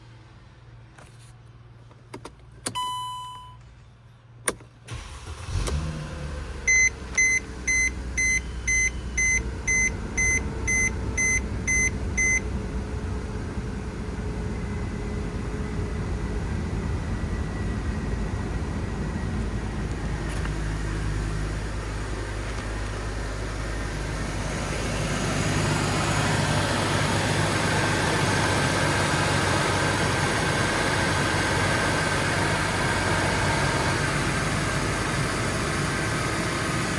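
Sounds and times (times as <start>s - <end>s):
car engine starting and idling: 4.4s - 36.9s.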